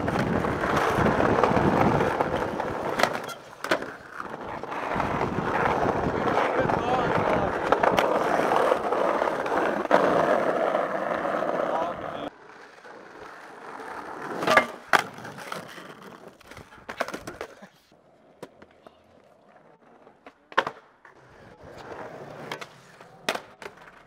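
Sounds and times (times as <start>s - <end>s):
skateboard clacks: 0.0s - 24.0s
skateboard wheels rolling on asphalt: 0.0s - 24.0s.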